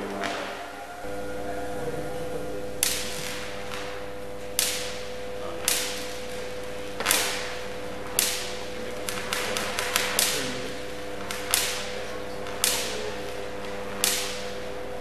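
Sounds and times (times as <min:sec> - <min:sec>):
sharp electrical arc cracks: 0:00.0 - 0:15.0
steady electrical hum: 0:00.0 - 0:15.0.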